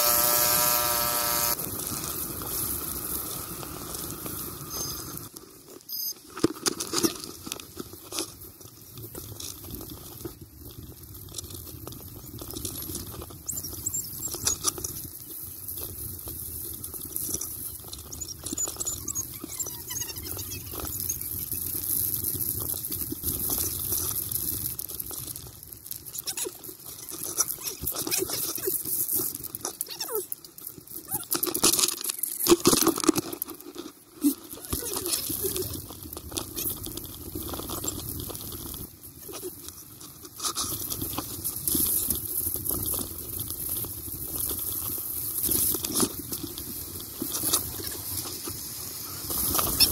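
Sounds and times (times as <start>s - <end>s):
crunching over packed snow: 0.0s - 49.9s.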